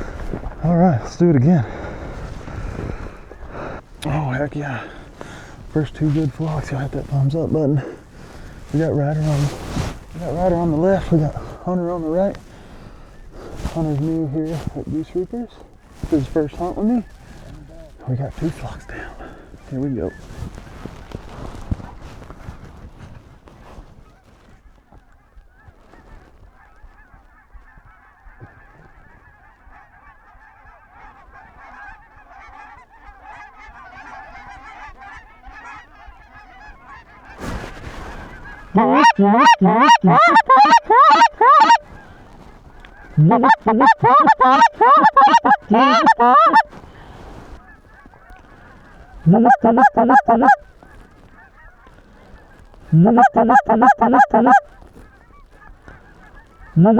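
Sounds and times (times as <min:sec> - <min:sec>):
goose calls honking: 0:00.0 - 0:20.8, 0:26.6 - 0:56.9
distant geese honking: 0:00.0 - 0:56.9.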